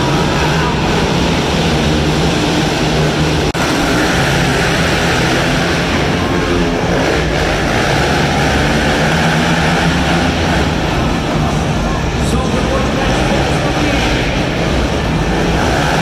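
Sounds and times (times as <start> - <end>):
quad bike engines racing: 0.0 - 16.0.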